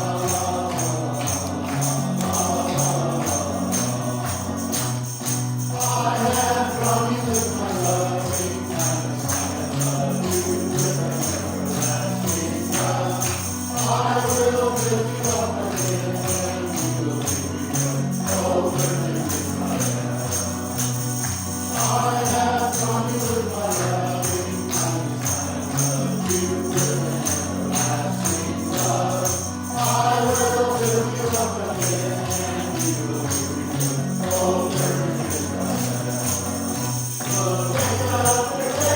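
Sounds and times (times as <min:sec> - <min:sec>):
person singing a hymn: 0:00.0 - 0:38.9
tambourines shaken: 0:00.0 - 0:38.9.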